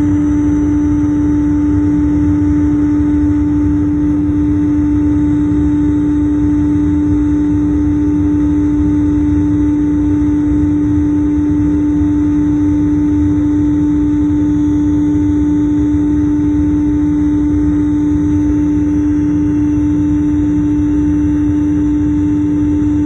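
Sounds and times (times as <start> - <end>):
constant loud hum tone: 0.0 - 23.0
jet engine drone: 0.0 - 23.0.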